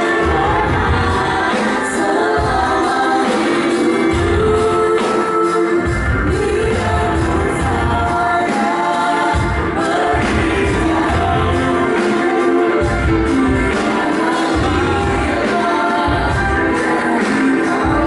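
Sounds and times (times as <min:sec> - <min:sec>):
pulsing bass line: 0:00.0 - 0:04.9, 0:05.8 - 0:18.0
band playing: 0:00.0 - 0:18.0
people singing long notes: 0:00.0 - 0:18.0.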